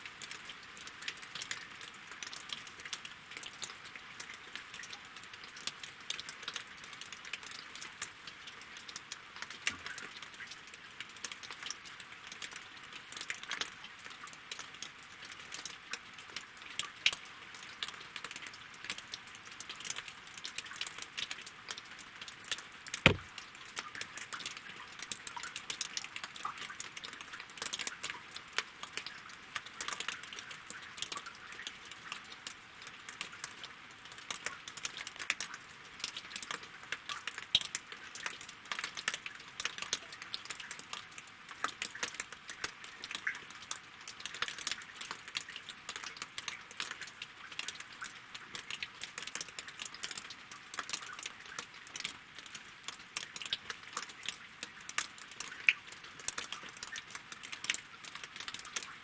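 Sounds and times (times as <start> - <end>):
rain falling on water and wood: 0.0 - 59.0.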